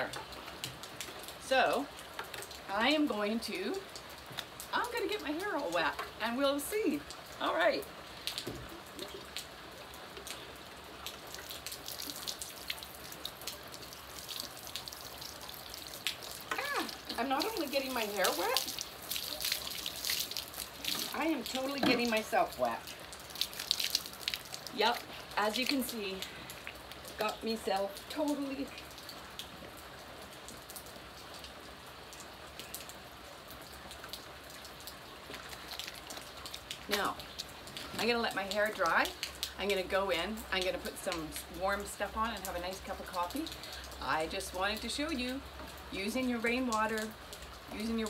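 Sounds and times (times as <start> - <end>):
rain falling: 0.0 - 48.0.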